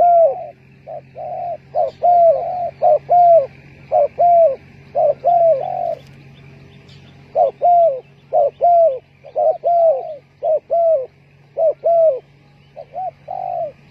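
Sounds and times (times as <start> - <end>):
dove cooing: 0.0 - 13.9.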